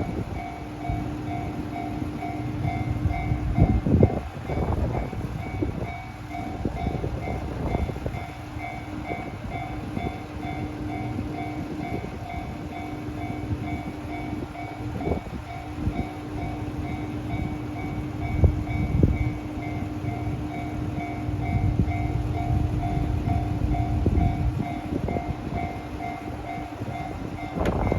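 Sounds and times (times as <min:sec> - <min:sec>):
diesel railcar rumbling: 0:00.0 - 0:27.9.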